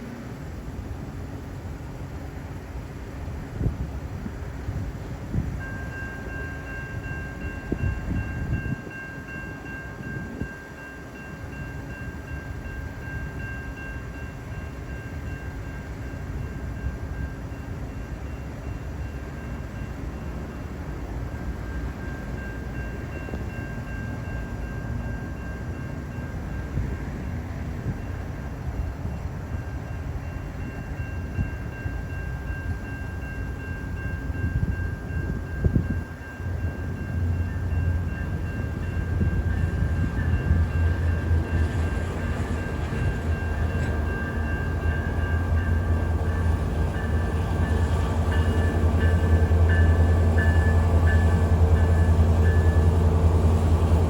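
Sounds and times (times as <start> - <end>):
train low rumble: 0.0 - 54.0.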